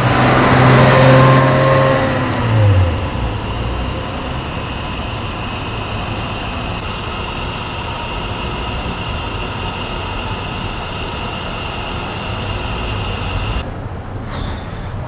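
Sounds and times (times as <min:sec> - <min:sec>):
outdoor rumble and hiss: 0:00.0 - 0:15.0
faint high whine: 0:01.1 - 0:13.6.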